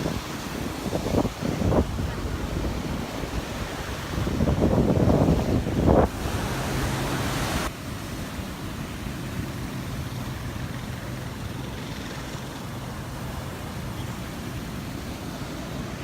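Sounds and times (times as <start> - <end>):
surf washing on beach: 0.0 - 16.0.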